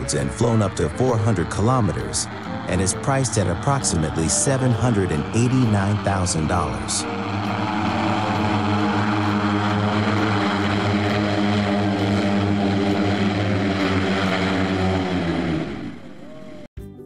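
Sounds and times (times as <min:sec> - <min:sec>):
aircraft propellers droning: 0:00.0 - 0:16.7.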